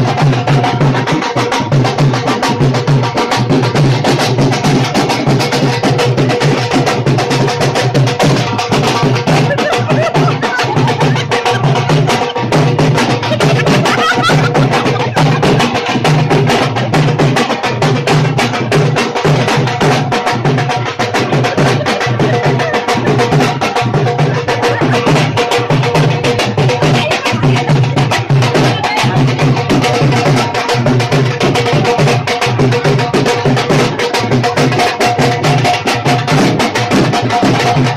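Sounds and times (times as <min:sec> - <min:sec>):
drum beaten in fast rhythm: 0:00.0 - 0:37.9.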